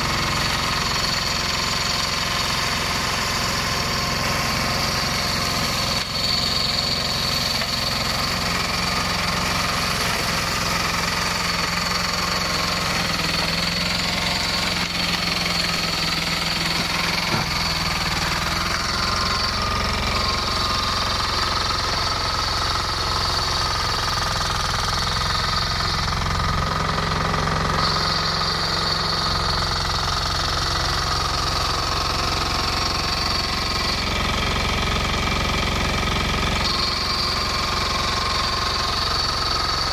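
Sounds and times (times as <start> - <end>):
diesel engine running: 0.0 - 39.9
high steady whine: 0.0 - 39.9.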